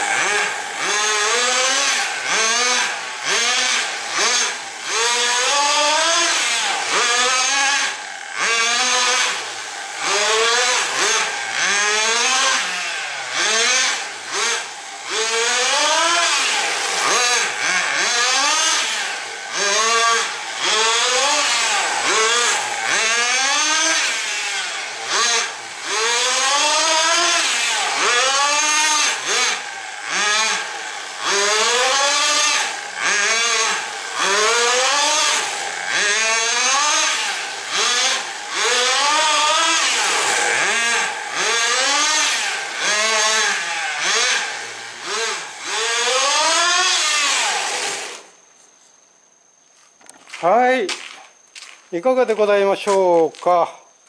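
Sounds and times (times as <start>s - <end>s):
rc car engine revving: 0.0s - 48.4s.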